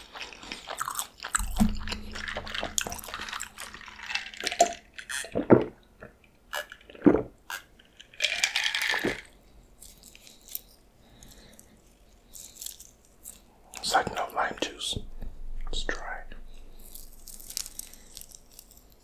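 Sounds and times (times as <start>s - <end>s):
crunchy wet chewing: 0.0s - 19.0s.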